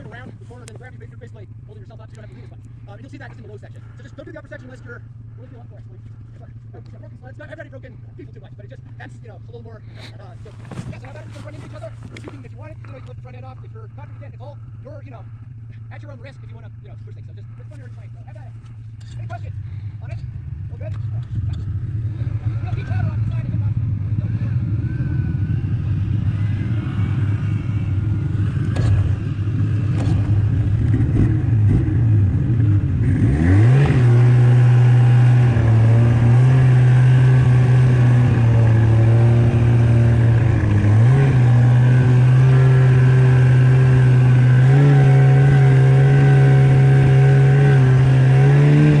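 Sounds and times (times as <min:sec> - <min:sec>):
snowmobile engine revving: 0:00.0 - 0:49.0.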